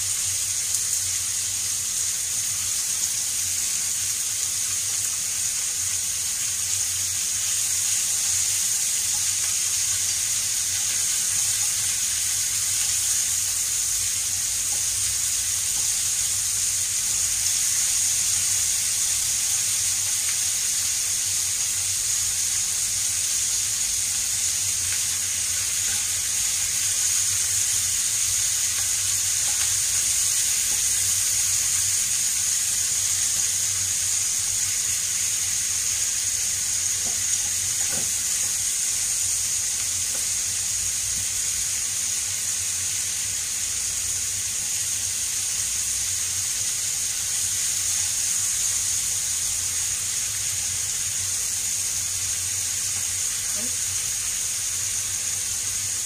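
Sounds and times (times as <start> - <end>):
meat and onion frying in oil: 0.0 - 56.0.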